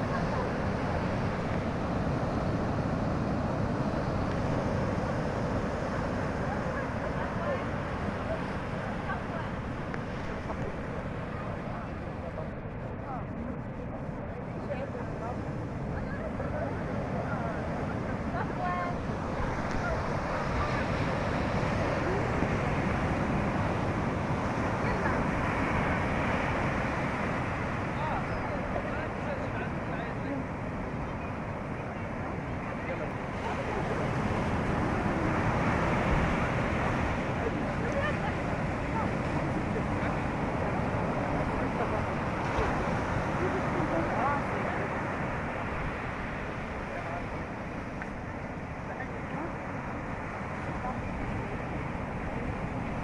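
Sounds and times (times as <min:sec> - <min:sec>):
faint voices: 0:00.0 - 0:53.0
rush of wind and sea water: 0:00.0 - 0:53.0
wind buffeting microphone: 0:00.0 - 0:53.0.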